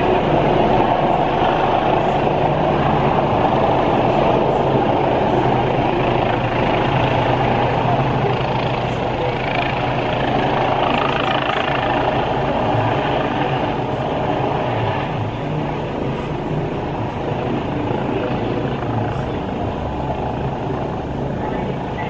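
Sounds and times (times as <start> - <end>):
helicopter rotor and turbine: 0.0 - 22.0.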